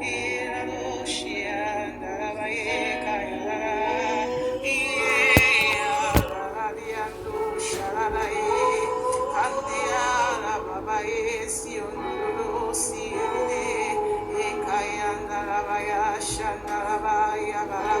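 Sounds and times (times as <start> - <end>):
person singing wavering lines: 0.0 - 18.0.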